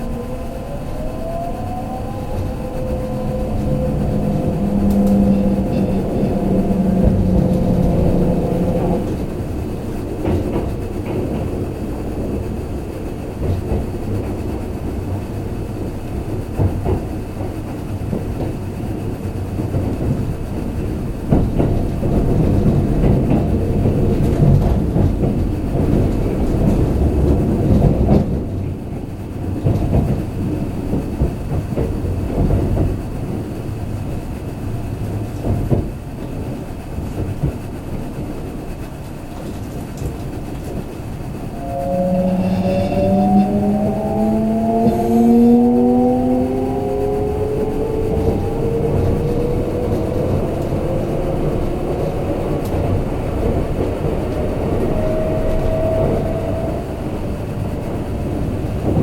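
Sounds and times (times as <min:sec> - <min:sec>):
rail joints clickety-clack: 0:00.0 - 0:59.0
train wheels rumbling on rails: 0:00.0 - 0:59.0.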